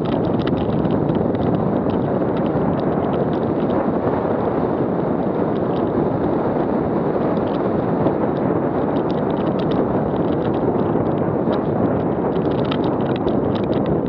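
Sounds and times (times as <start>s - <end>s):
small clicks and rattles: 0.0s - 3.8s, 5.2s - 6.2s, 7.3s - 14.0s
wind buffeting microphone: 0.0s - 14.0s.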